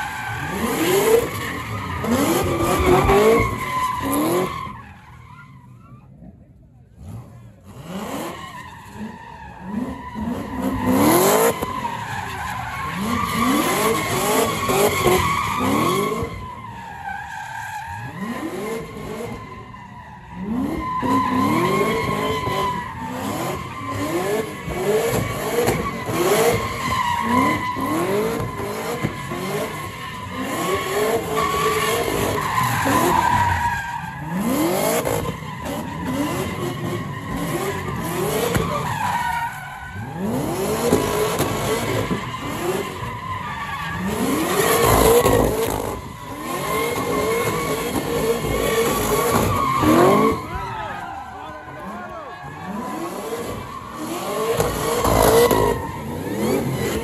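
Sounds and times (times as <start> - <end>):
car engine revving: 0.0 - 17.0, 17.9 - 57.0.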